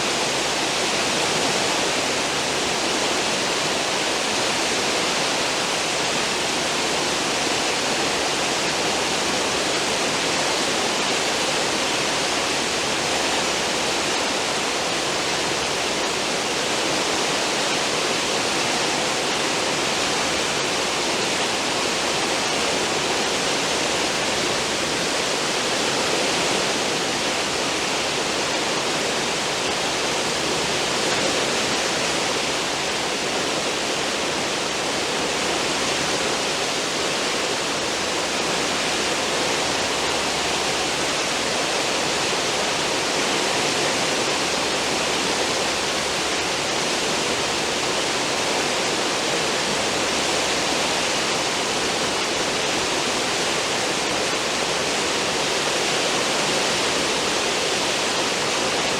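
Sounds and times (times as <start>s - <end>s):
ship's wake water foaming: 0.0s - 58.9s.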